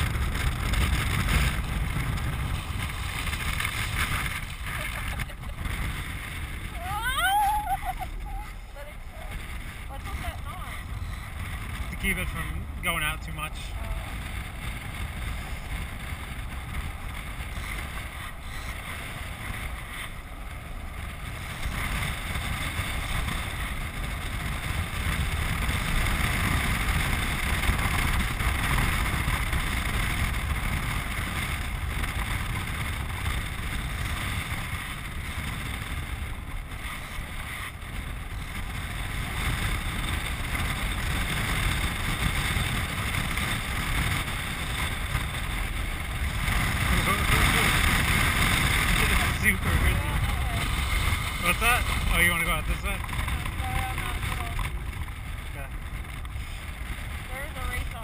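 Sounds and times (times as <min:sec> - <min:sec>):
low rumble: 0:00.0 - 0:58.0
wind rushing over camera: 0:00.0 - 0:58.0.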